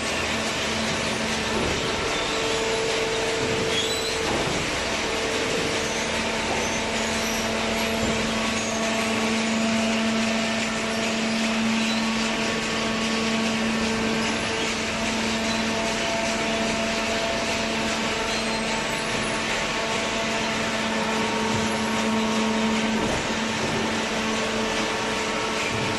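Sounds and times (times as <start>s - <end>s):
hydraulic baling press humming: 0.0s - 25.9s.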